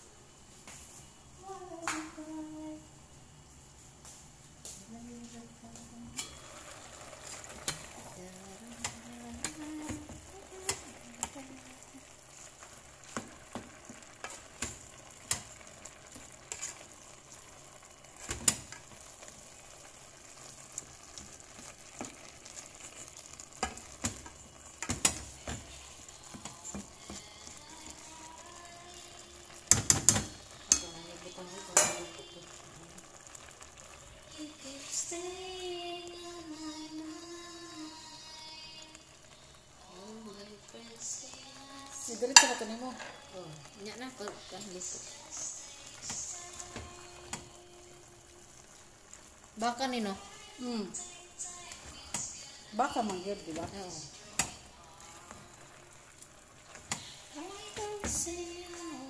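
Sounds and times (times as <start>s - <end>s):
meat sizzling in a pot: 3.2s - 59.0s.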